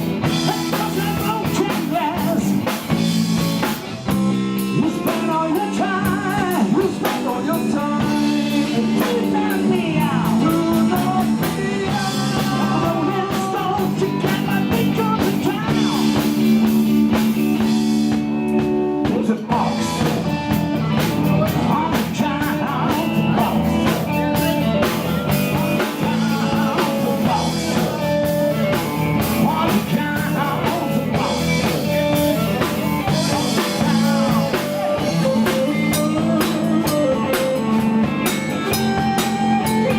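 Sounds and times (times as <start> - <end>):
blues rock band playing: 0.0 - 39.9.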